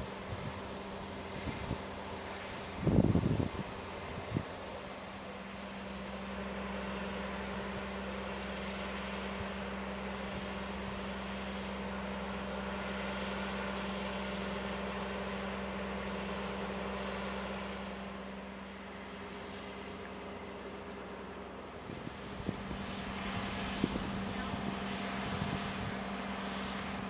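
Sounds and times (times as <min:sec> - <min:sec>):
distant excavator engine humming: 0:00.0 - 0:27.0.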